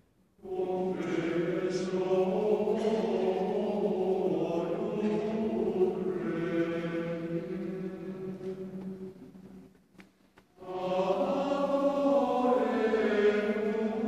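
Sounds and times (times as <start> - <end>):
choir singing sustained notes: 0.0 - 9.6, 10.6 - 14.0.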